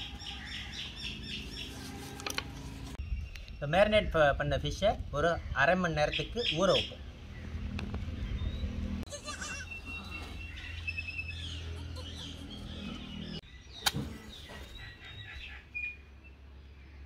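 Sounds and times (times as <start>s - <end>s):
small birds chirping: 0.0s - 4.2s, 5.2s - 17.0s.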